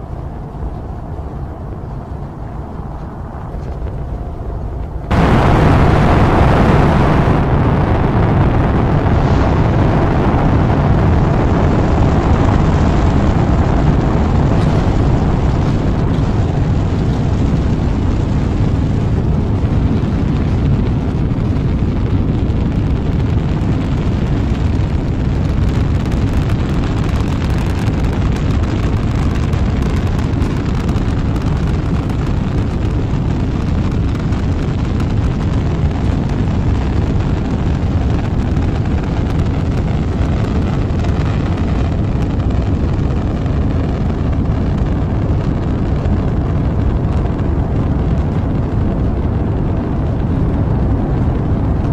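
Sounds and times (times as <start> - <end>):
rocket engines rumbling: 0.0 - 51.9.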